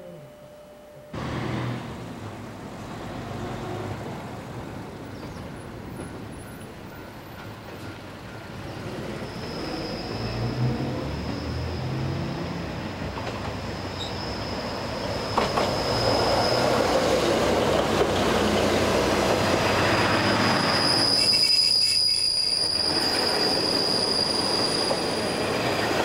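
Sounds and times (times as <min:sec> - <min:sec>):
diesel train rumbling past: 0:01.1 - 0:26.0
wheels squealing on rails: 0:04.9 - 0:26.0.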